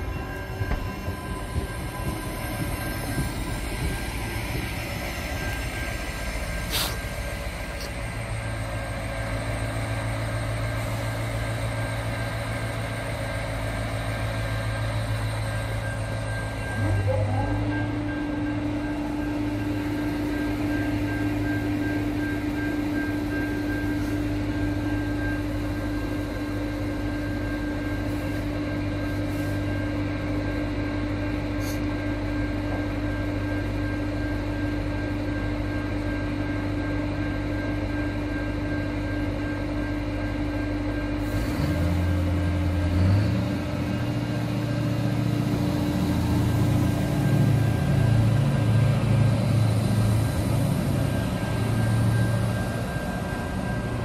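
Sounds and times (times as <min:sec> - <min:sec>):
diesel railcar engine: 0:00.0 - 0:54.0.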